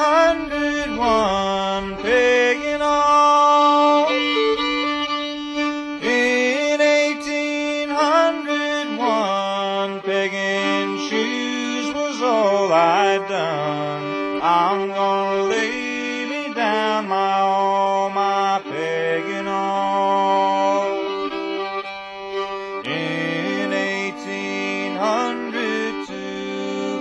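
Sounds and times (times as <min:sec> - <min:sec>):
fiddle playing: 0:00.0 - 0:27.0
string band backing: 0:00.0 - 0:27.0.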